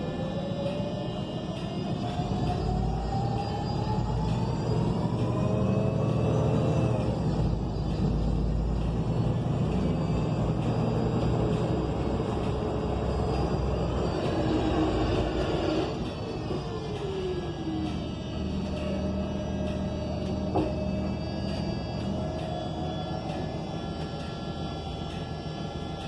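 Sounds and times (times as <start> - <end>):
bus engine low rumble: 0.0 - 26.0
transmission whine: 0.0 - 26.0.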